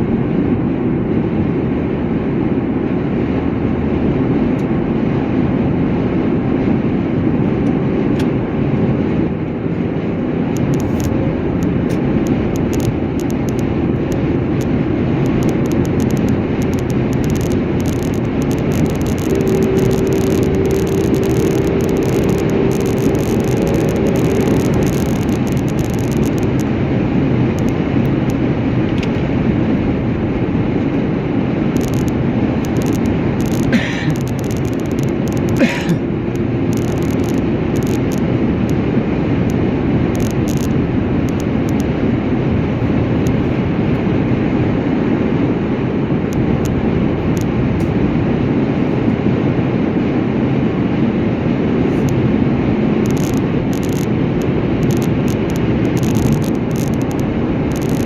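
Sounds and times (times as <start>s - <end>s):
moving vehicle road and engine noise: 0.0s - 58.0s.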